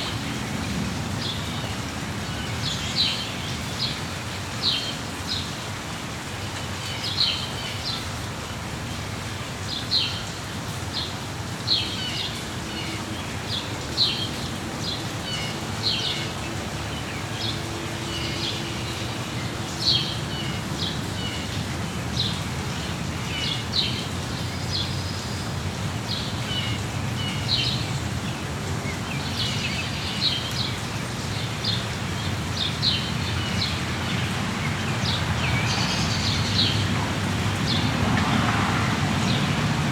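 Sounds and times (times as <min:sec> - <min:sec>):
rain falling: 0:00.0 - 0:39.9
songbirds chirping: 0:06.3 - 0:39.6.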